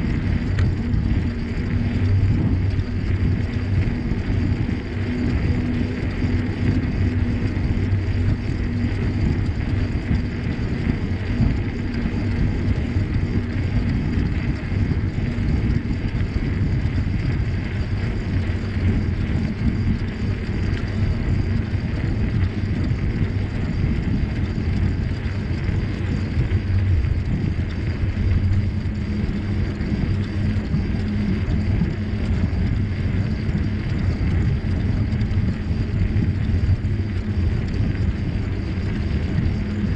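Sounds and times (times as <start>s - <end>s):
bicycle tyres rolling on trail: 0.0s - 39.9s
wind buffeting microphone: 0.0s - 39.9s.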